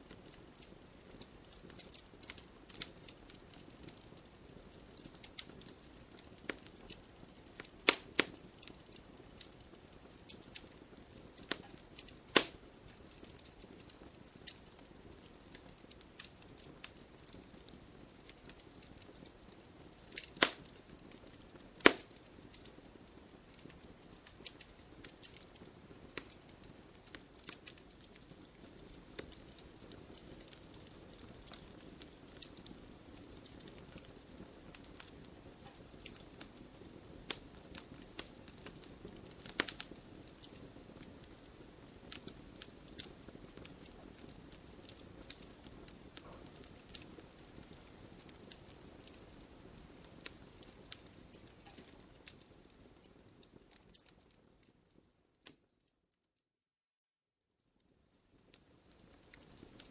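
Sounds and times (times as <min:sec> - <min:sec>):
wood fire crackling: 0:00.0 - 0:55.9, 0:57.8 - 0:59.9
sharp fire pops: 0:00.1 - 0:54.3.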